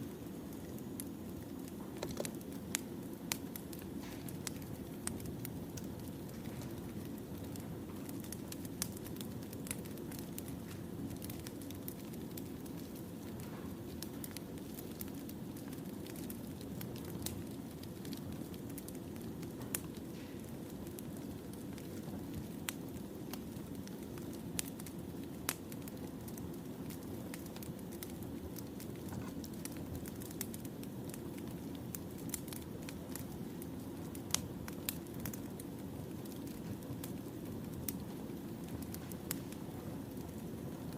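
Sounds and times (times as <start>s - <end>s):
campfire flames crackling: 0.0s - 40.9s.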